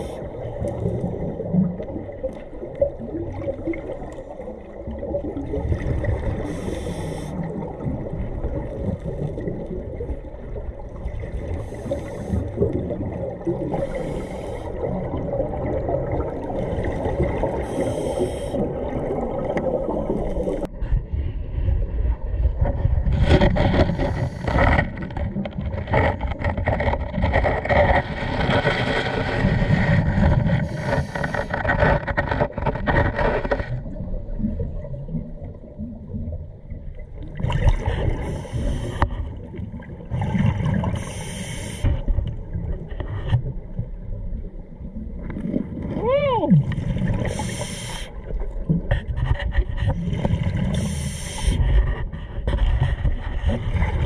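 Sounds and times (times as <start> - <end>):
low rumble of water: 0.0 - 54.0.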